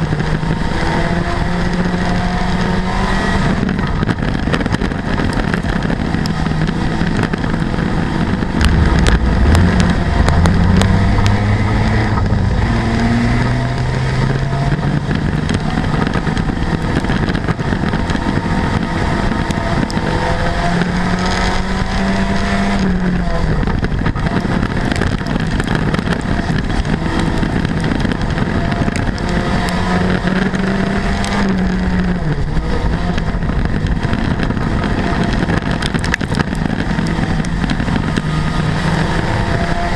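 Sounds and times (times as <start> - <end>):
race car engine revving: 0.0 - 39.9
road and wind noise: 0.0 - 39.9.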